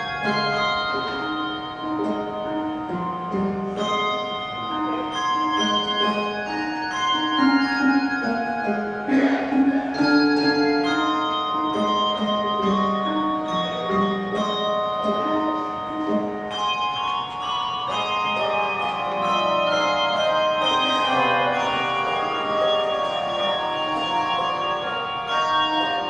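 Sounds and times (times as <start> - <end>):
handbell choir playing: 0.0 - 26.0.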